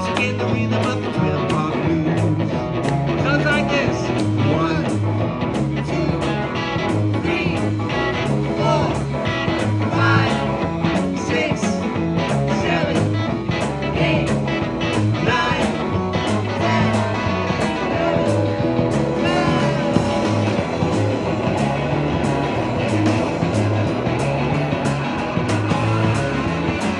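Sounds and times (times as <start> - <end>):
bass: 0.0 - 26.9
electric guitars: 0.0 - 26.9
keyboard: 0.0 - 26.9
steady drum beat: 0.0 - 26.9.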